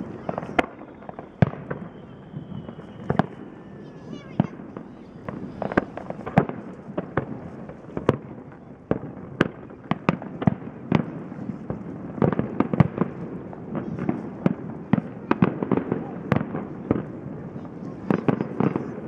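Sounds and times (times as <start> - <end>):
fireworks bursting bangs: 0.0 - 19.0
rumble of fireworks reports: 0.0 - 19.0.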